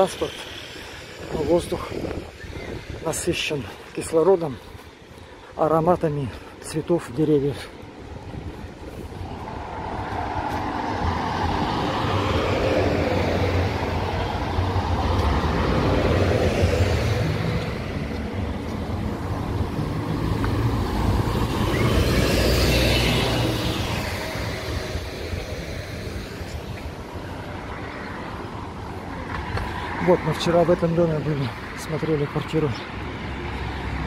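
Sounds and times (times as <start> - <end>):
vehicles passing close by: 0.0 - 34.0.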